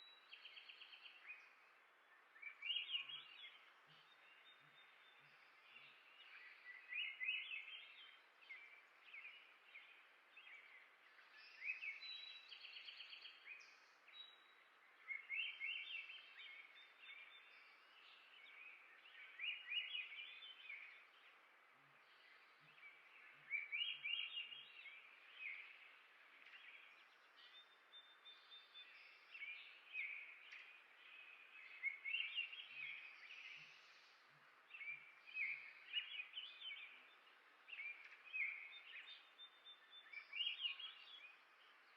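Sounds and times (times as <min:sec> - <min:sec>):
faint outdoor hiss: 0:00.0 - 0:41.9.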